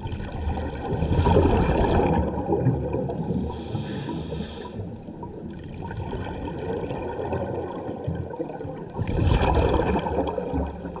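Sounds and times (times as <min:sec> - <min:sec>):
regulator air bubbles underwater: 0:00.0 - 0:11.0
steady watery rumble: 0:00.0 - 0:11.0.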